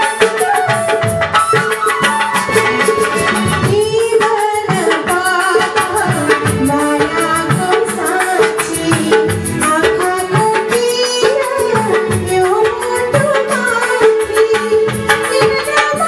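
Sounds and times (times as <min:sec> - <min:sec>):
band playing folk music: 0:00.0 - 0:16.0
hand drum beat: 0:00.0 - 0:16.0
woman singing into a microphone: 0:00.0 - 0:16.0.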